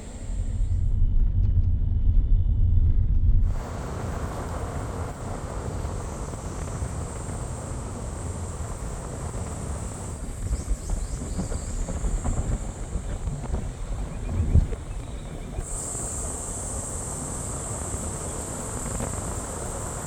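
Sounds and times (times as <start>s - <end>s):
wind rumbling on microphone: 0.0s - 20.0s
high-pitched hiss: 3.5s - 20.0s.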